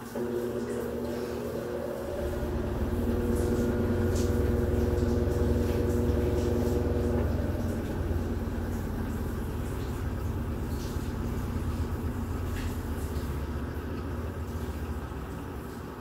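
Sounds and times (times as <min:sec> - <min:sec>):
motor hum: 0:00.0 - 0:16.0
washing machine spin rumble: 0:00.0 - 0:16.0.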